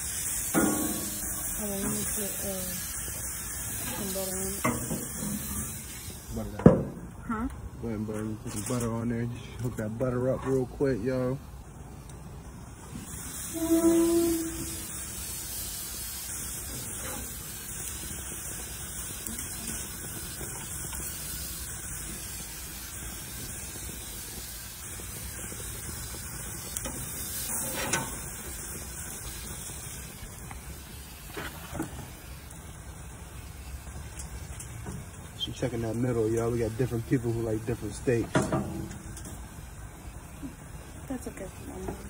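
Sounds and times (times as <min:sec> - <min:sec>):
steaks sizzling on a grill: 0:00.0 - 0:42.0.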